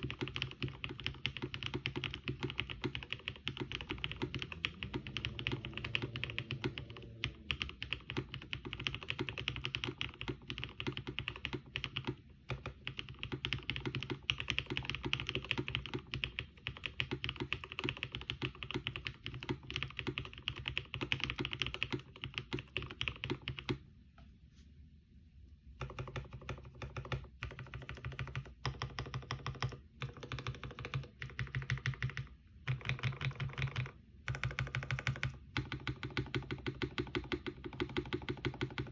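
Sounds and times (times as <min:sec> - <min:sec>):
mechanical keyboard typing: 0:00.0 - 0:23.8, 0:25.8 - 0:38.9.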